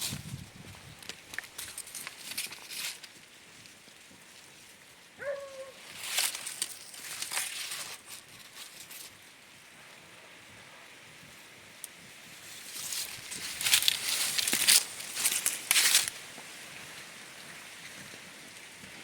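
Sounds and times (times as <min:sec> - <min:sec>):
rustling in brush: 0:00.0 - 0:04.9, 0:05.7 - 0:11.5, 0:12.1 - 0:18.6.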